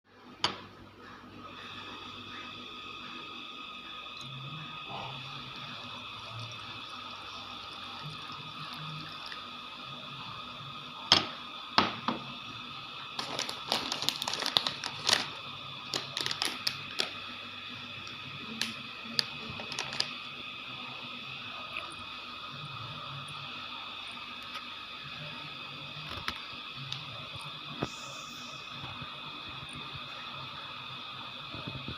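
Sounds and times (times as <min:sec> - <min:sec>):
steady high-pitched hum: 0:00.1 - 0:31.9.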